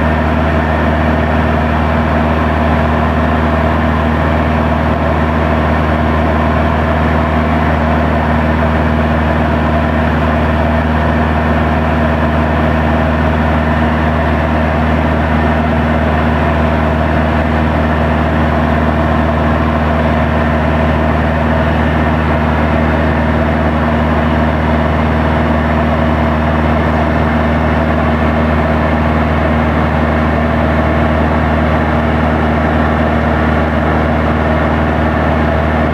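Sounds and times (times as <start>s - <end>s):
aircraft engine and propeller droning: 0.0s - 35.9s.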